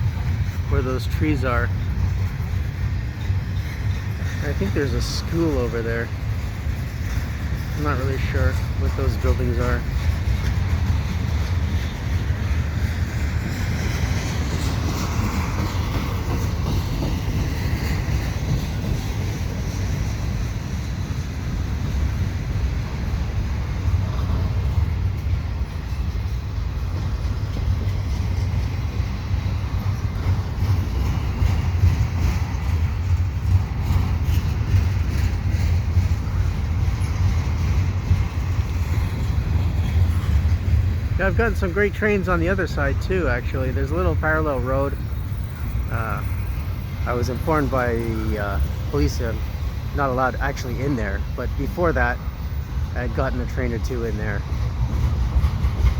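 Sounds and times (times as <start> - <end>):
freight train rumbling: 0.0 - 55.9
wheel clacks: 0.0 - 55.9.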